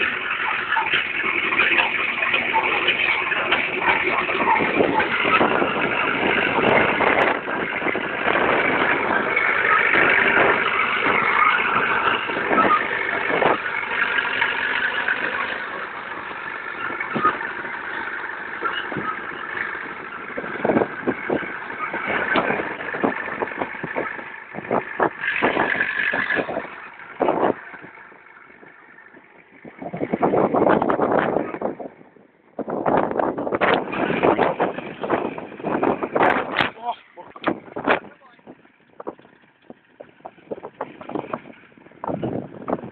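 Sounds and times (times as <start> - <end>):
crawler tractor diesel engine: 0.0 - 42.9.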